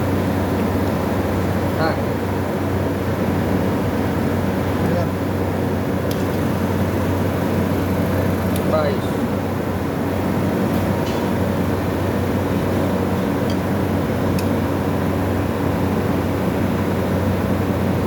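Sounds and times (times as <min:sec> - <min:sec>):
compressor electrical hum: 0:00.0 - 0:18.0.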